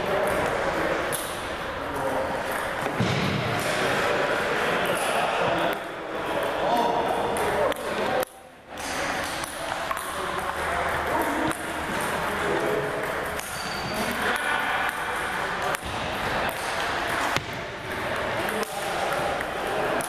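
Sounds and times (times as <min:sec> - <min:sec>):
table tennis balls bouncing: 0:00.0 - 0:04.1, 0:04.9 - 0:20.0
indistinct background chatter: 0:00.0 - 0:20.0.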